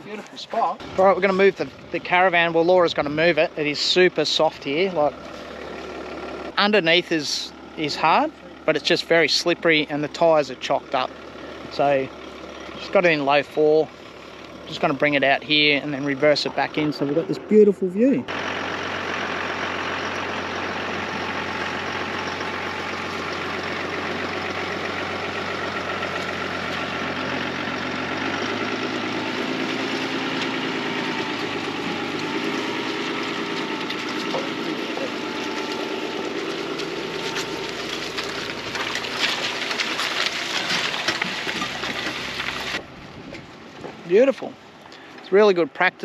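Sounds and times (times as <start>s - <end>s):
engine running under load: 0.0s - 46.0s.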